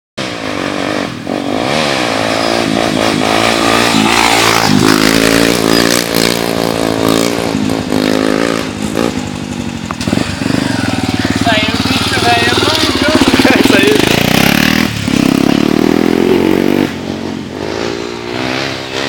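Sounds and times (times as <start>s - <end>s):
motorcycle engine revving: 0.2s - 19.0s.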